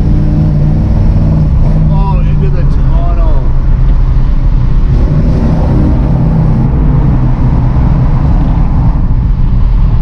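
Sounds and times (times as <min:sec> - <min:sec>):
car engine running from inside cabin: 0:00.0 - 0:10.0.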